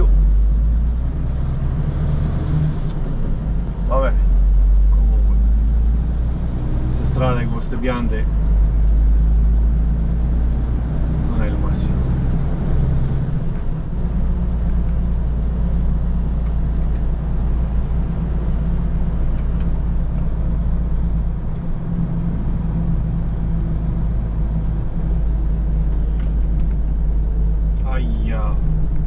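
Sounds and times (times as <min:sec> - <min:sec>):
road noise: 0:00.0 - 0:29.0
truck diesel engine drone: 0:00.0 - 0:29.0.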